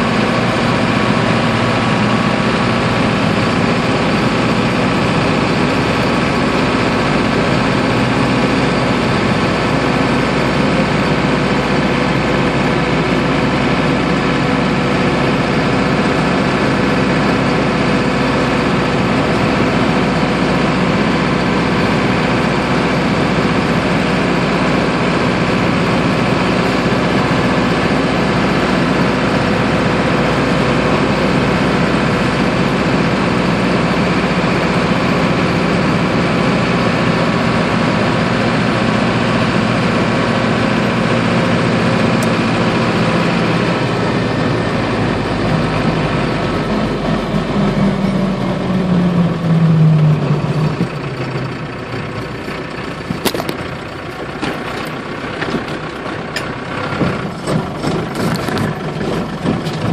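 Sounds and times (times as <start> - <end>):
diesel engine running inside cab: 0.0 - 59.9
road and drivetrain noise: 0.0 - 59.9.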